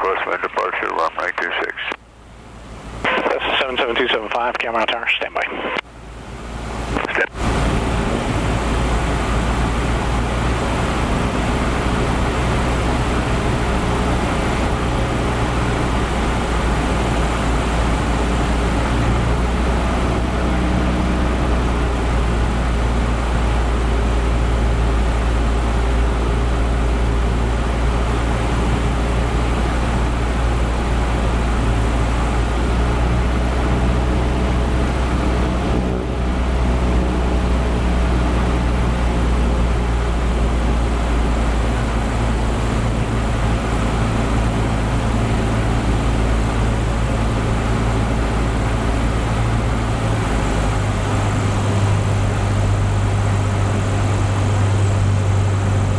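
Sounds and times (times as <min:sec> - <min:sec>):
propeller plane engine drone: 0:00.0 - 0:55.9.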